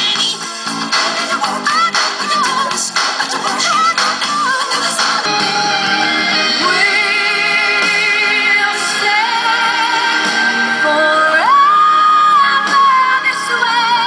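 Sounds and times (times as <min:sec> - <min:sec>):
backing track: 0:00.0 - 0:14.0
woman singing with vibrato: 0:01.6 - 0:14.0.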